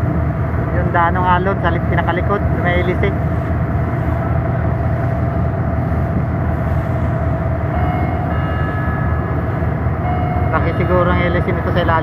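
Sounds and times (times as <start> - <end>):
ferry engines rumbling: 0.0 - 12.0
propeller wake churning: 0.0 - 12.0.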